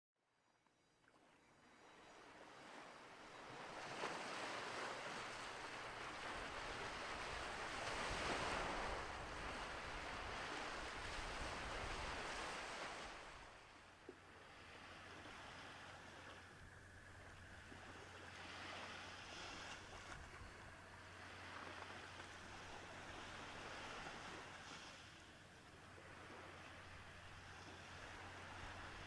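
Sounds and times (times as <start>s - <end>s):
small waves washing onto shore: 2.1s - 29.0s.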